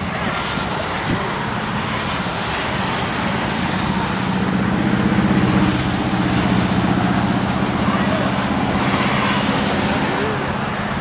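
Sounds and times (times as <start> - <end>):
vehicles driving past on highway: 0.0 - 11.0.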